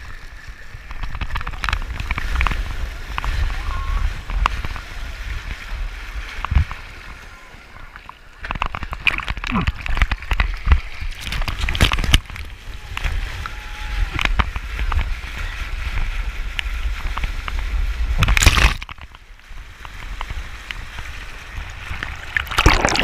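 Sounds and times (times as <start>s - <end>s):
surf rushing and splashing: 0.0s - 23.0s.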